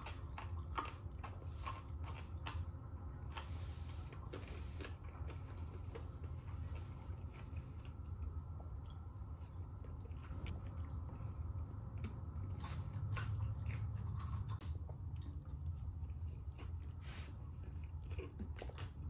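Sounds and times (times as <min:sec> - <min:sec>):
chewing crispy fried chicken: 0:00.0 - 0:19.0
steady low hum: 0:00.0 - 0:19.0.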